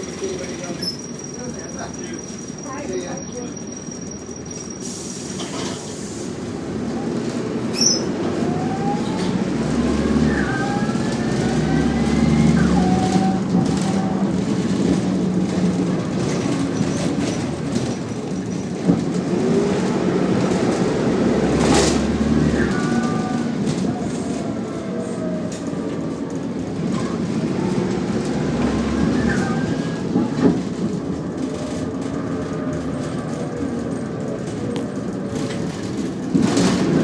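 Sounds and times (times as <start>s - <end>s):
bus engine rumbling: 0.0s - 37.0s.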